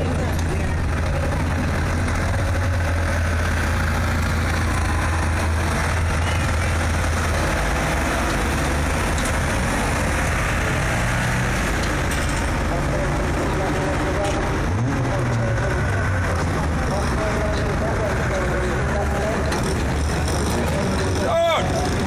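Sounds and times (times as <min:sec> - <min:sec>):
race car engines idling: 0:00.0 - 0:22.0.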